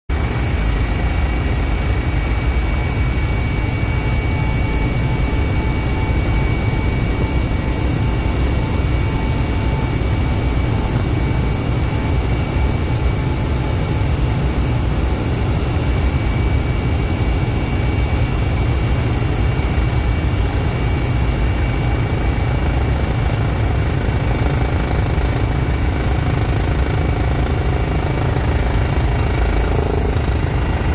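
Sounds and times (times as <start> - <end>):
helicopter engine and rotor drone: 0.1 - 30.9.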